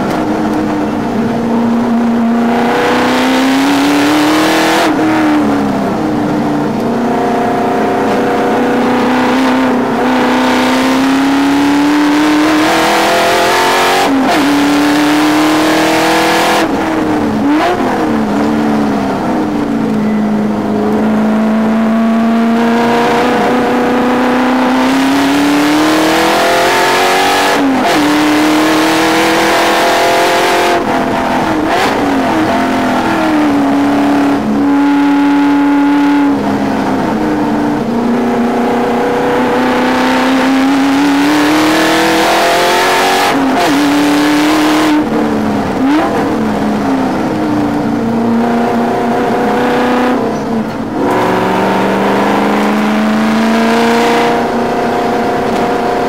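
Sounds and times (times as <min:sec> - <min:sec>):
race car engine at full throttle: 0:00.0 - 0:56.0.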